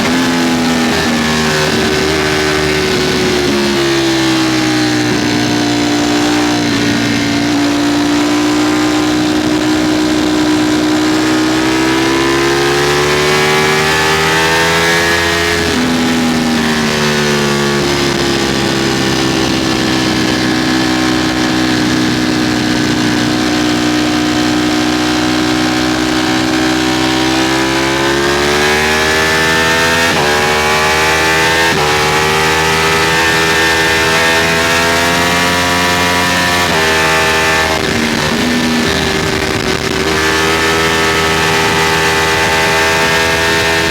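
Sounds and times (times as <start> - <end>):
motorcycle engine pulling hard: 0.0 - 43.9.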